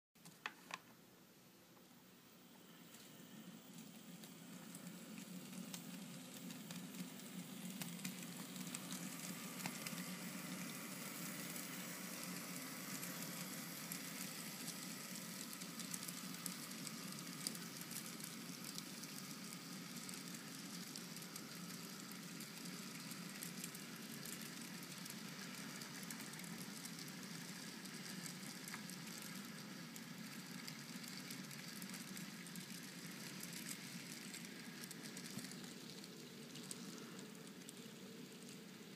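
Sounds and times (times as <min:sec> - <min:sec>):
model train rolling on track: 0:02.4 - 0:38.9.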